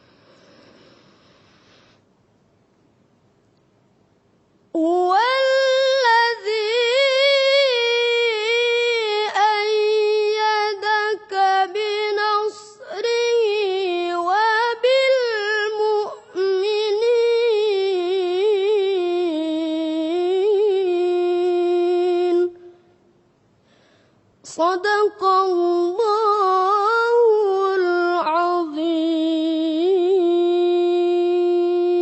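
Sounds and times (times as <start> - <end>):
high voice melodic chanting: 4.8 - 22.9, 24.5 - 32.0.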